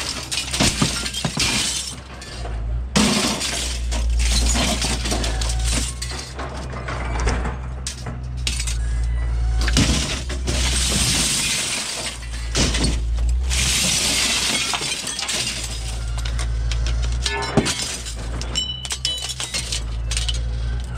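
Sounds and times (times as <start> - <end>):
glass crunching and tinkling: 0.0 - 6.3, 7.9 - 20.9
glass shattering: 0.0 - 6.3, 9.6 - 20.7.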